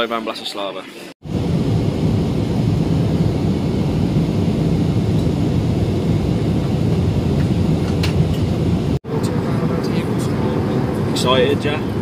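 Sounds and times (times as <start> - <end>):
jet engines rumbling in cabin: 1.2 - 12.0.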